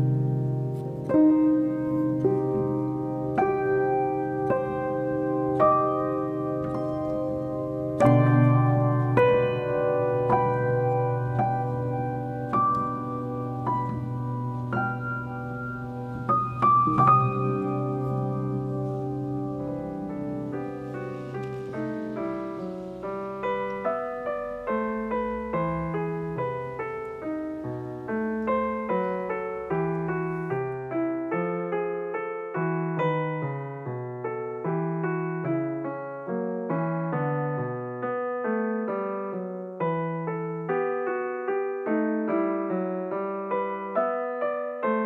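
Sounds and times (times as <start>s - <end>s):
calm solo piano music: 0.0s - 45.0s.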